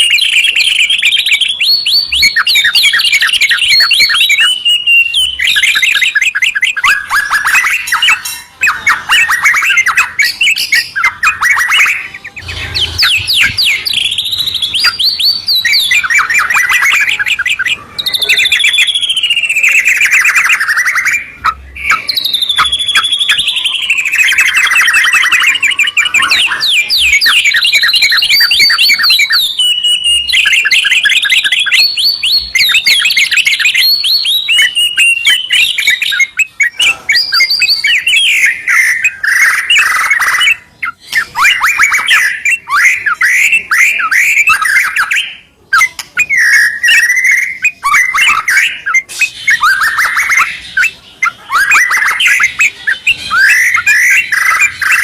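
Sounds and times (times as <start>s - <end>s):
birds singing: 0.0s - 55.0s
chattering bird notes: 0.0s - 55.0s
sweeping whistled bird phrases: 0.0s - 55.0s.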